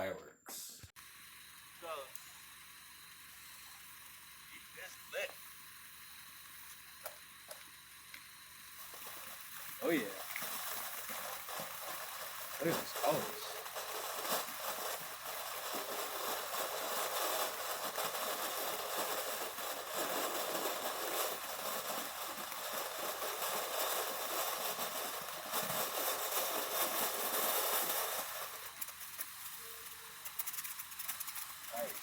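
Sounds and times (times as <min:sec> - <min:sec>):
firework fountain hissing: 0:00.8 - 0:32.0.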